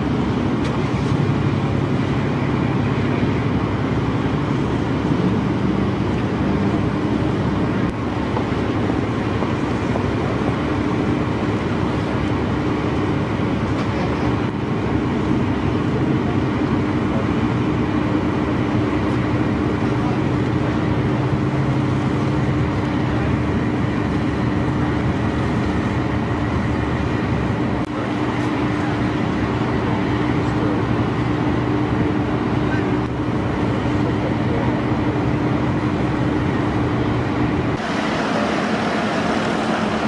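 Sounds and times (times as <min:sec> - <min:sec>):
crane machinery droning: 0:00.0 - 0:40.0.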